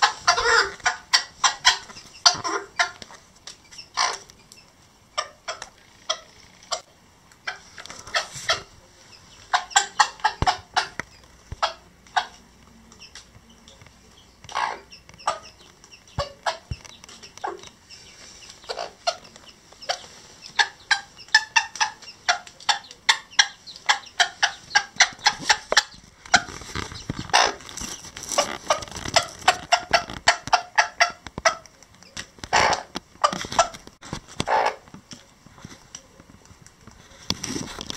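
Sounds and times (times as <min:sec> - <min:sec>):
hen clucking: 0:00.0 - 0:34.9.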